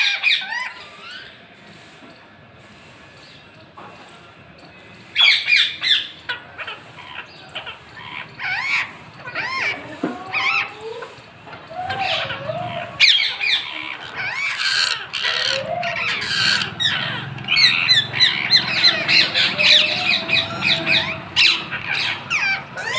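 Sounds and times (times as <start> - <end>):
parrots squawking: 0.0 - 1.4, 4.8 - 22.9.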